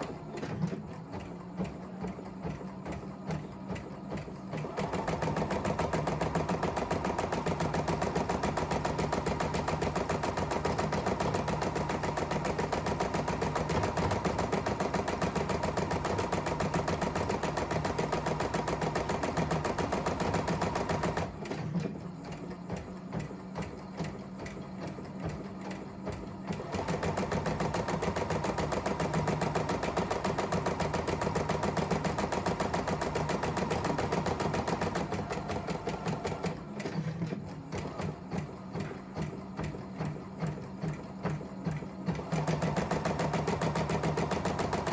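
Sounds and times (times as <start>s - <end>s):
embroidery machine stitching: 0.0s - 44.9s.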